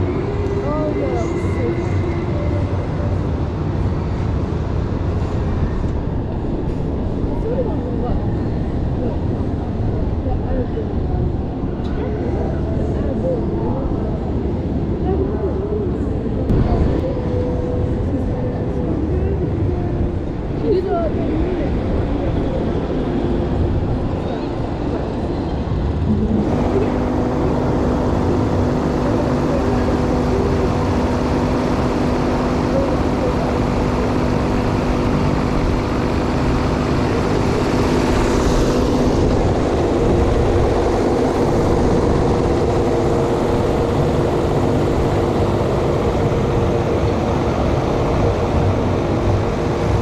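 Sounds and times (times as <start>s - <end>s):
ride machinery humming: 0.0s - 50.0s
rushing rumble: 0.0s - 50.0s.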